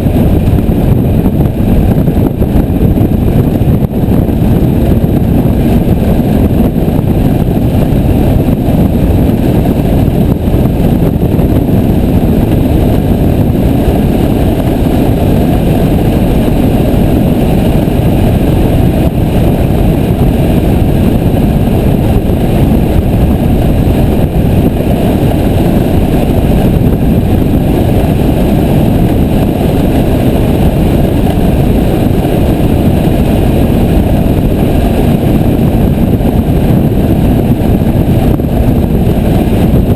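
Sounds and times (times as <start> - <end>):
small plane engine and propeller roar: 0.0 - 39.9.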